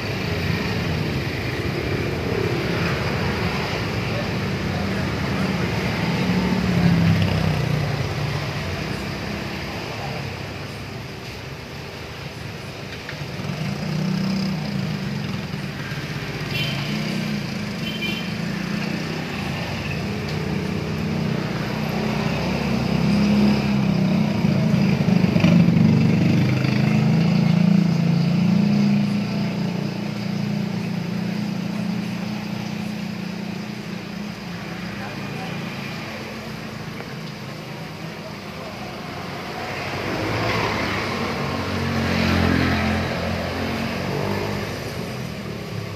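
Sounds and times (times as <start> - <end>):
engine droning: 0.0 - 45.9.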